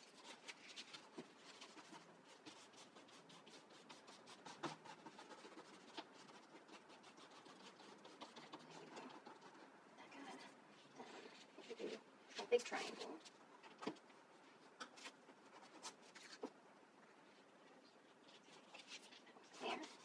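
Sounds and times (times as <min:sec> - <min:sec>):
paper rustling and scratching: 0:00.0 - 0:16.6, 0:17.3 - 0:20.0.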